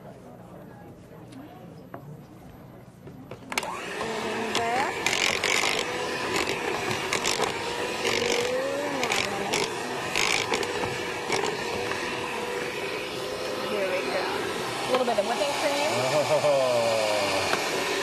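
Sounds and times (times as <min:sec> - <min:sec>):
electric mixer motor humming: 0:03.5 - 0:18.0.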